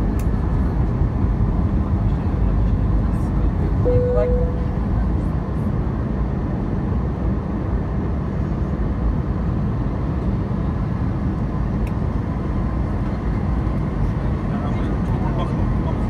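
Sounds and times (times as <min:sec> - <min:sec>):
airliner cabin engine noise: 0:00.0 - 0:16.0.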